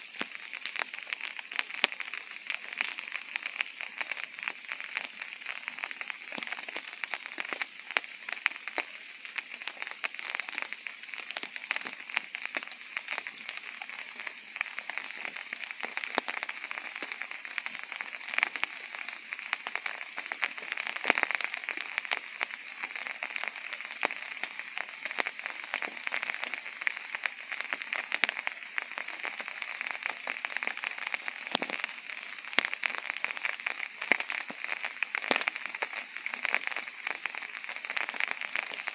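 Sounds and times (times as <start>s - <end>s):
rain on tent fabric: 0.0s - 38.9s.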